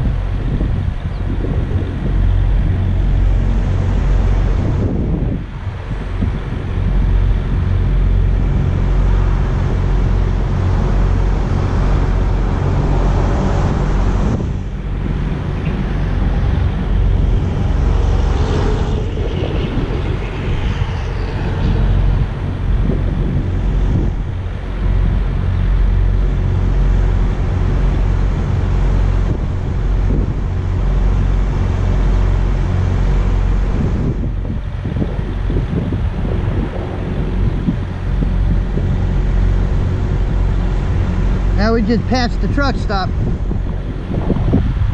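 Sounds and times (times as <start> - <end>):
road traffic rumble: 0.0 - 44.9
truck engines: 0.0 - 44.9
wind buffeting microphone: 0.0 - 44.9.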